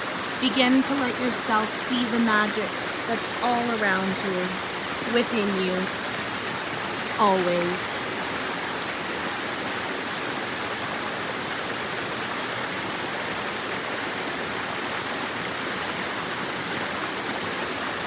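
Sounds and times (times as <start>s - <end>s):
rushing flowing water: 0.0s - 18.0s.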